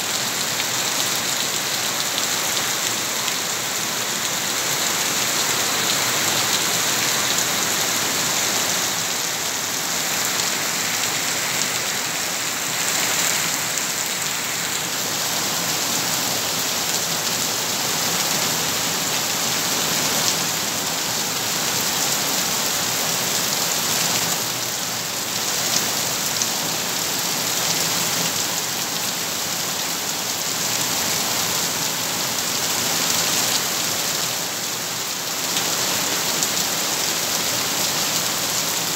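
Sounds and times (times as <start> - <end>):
heavy rain on paving and roof: 0.0 - 38.9.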